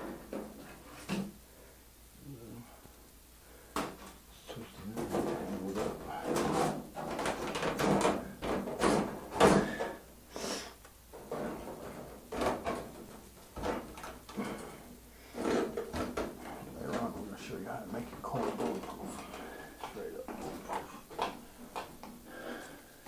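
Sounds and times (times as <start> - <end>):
objects clattering and knocking: 0.0 - 1.4, 3.7 - 10.1, 11.1 - 23.0.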